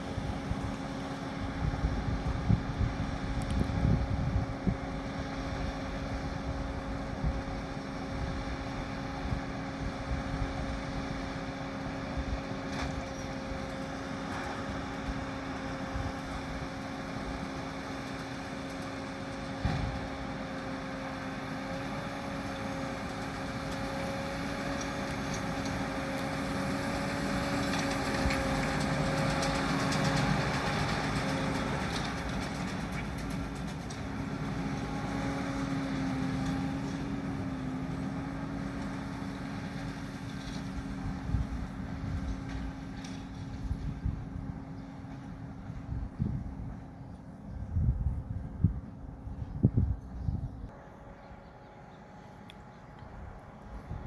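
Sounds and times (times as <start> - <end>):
round baler working: 0.0 - 54.0
tractor engine hum: 0.0 - 54.0.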